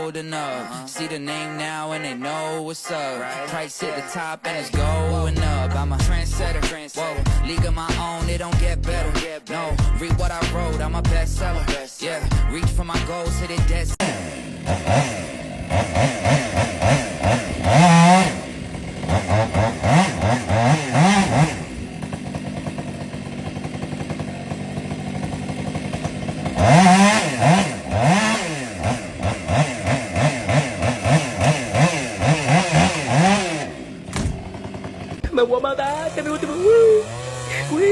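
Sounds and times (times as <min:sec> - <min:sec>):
chainsaw engine revving: 0:04.8 - 0:11.8, 0:12.6 - 0:37.9.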